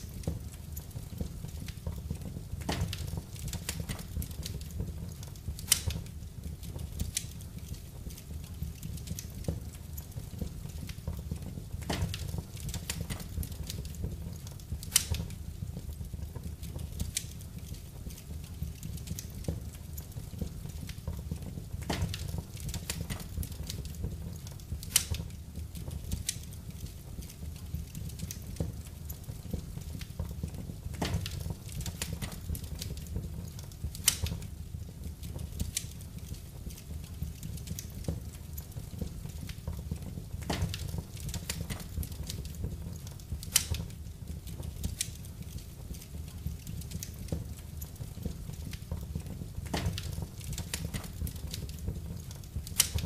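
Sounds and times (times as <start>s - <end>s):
fire crackling and popping: 0.0s - 53.0s
low rumble of fire: 0.0s - 53.0s.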